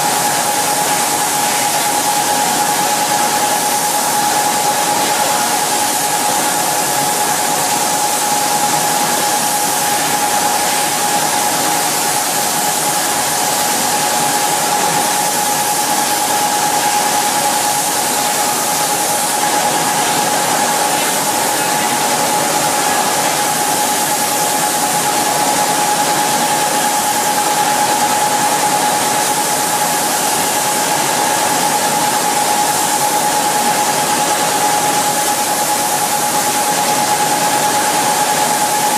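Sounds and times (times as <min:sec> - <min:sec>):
constant whine: 0:00.0 - 0:38.9.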